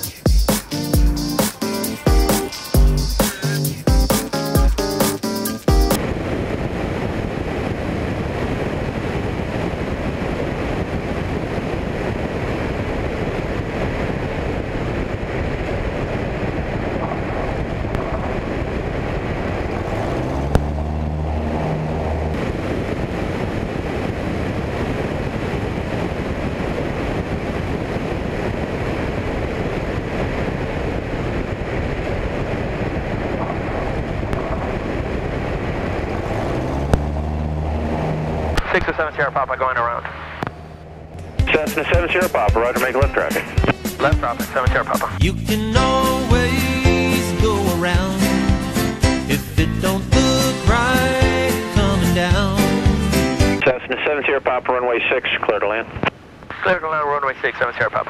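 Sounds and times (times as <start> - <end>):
rushing wind: 0.0 - 51.9, 53.2 - 58.0
airplane engine and propeller drone: 0.0 - 58.0.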